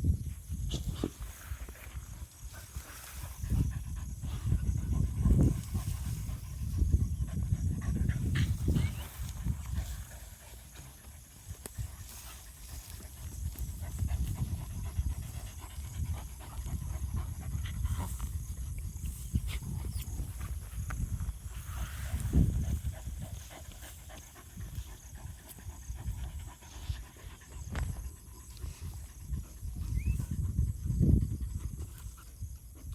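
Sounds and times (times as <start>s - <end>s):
paws scraping earth: 0.5s - 32.6s
dog panting: 2.6s - 18.4s, 22.1s - 32.9s.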